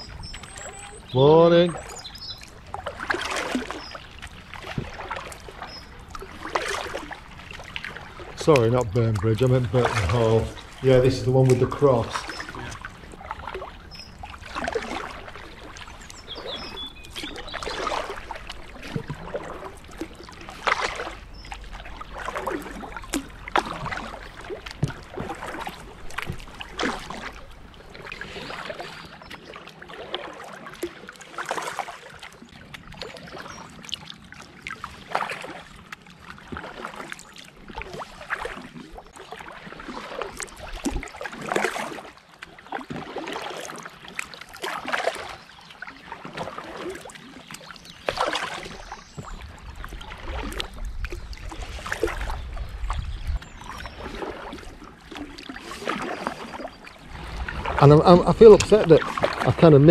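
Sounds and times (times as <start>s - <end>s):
paddle splashing in water: 0.0s - 59.9s.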